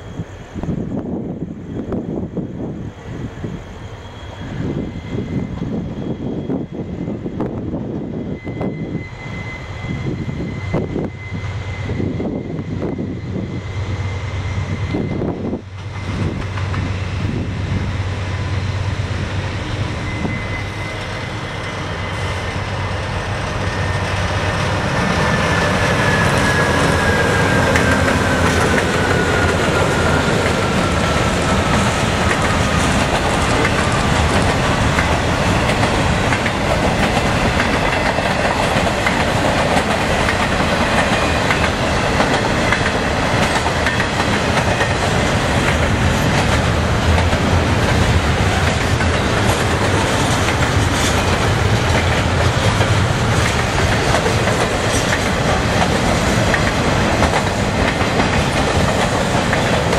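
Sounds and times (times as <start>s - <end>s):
diesel locomotive whine: 0.0s - 59.9s
train cars rumbling and clattering: 0.0s - 59.9s.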